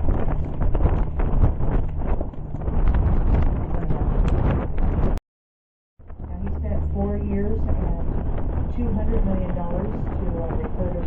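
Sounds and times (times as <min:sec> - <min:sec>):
wind buffeting microphone: 0:00.0 - 0:05.2, 0:06.0 - 0:11.0.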